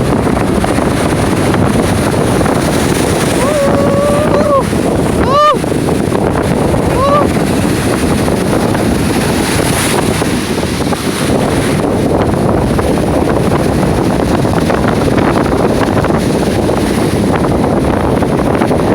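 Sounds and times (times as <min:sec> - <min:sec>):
strong wind on microphone: 0:00.0 - 0:18.9
waves breaking: 0:00.0 - 0:18.9.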